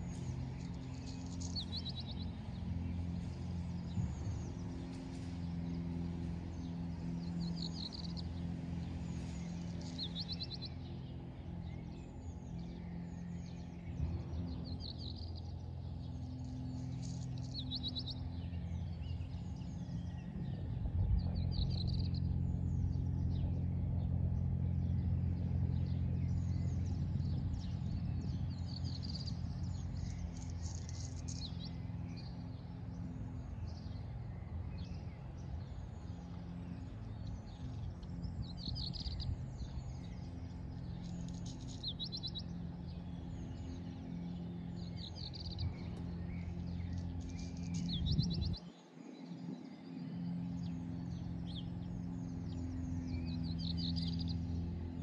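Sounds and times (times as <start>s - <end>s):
low engine hum: 0.0s - 55.0s
small birds chirping: 0.0s - 55.0s.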